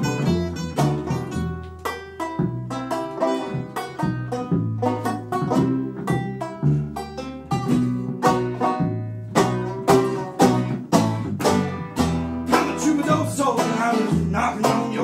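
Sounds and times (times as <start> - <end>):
acoustic guitar: 0.0 - 15.0
banjo picking: 0.0 - 15.0.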